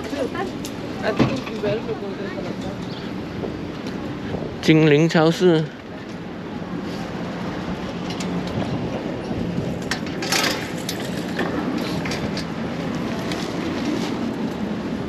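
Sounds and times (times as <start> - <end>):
engine hum: 0.0 - 15.0
traffic rumble: 0.0 - 15.0.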